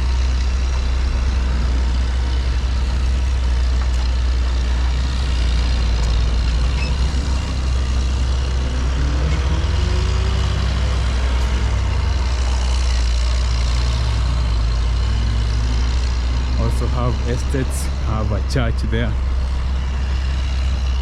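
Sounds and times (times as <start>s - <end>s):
highway traffic rumble: 0.0s - 21.0s.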